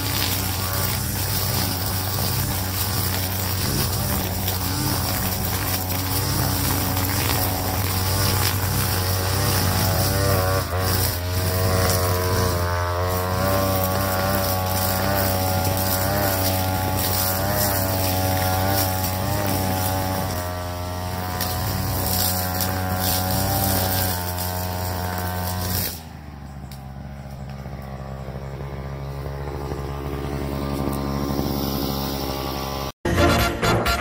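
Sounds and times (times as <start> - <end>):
brush cutter engine cutting grass: 0.0 - 33.0.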